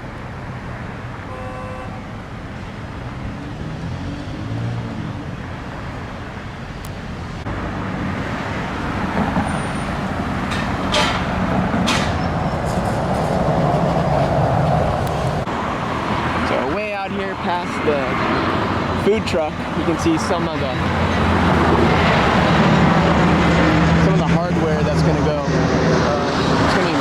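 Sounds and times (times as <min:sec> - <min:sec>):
heavy vehicle passing: 0:00.0 - 0:06.5, 0:07.1 - 0:27.0
vehicles driving past: 0:00.0 - 0:27.0.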